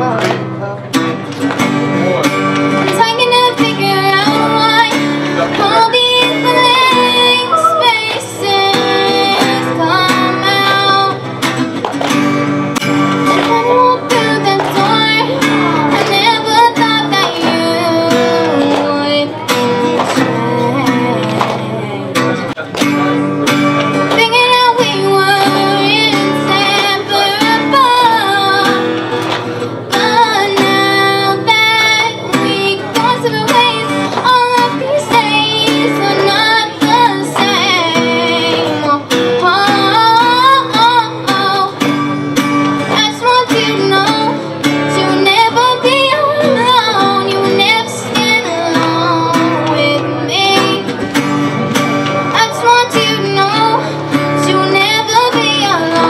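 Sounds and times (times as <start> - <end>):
acoustic guitar chords: 0.0 - 56.0
girl singing: 2.9 - 11.6, 13.1 - 22.3, 24.0 - 29.2, 29.8 - 56.0.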